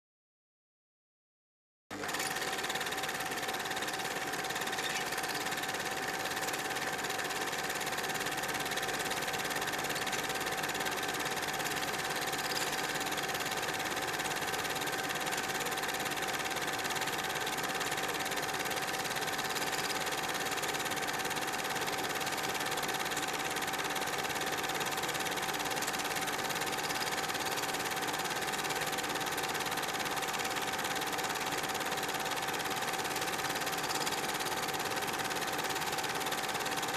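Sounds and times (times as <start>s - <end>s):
film projector whirring: 1.9s - 36.9s.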